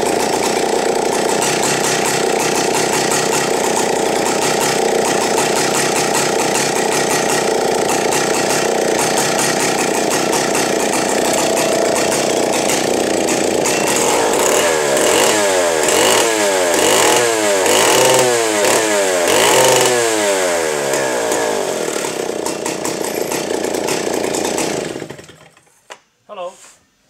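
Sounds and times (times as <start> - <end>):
chainsaw engine revving: 0.0 - 25.6.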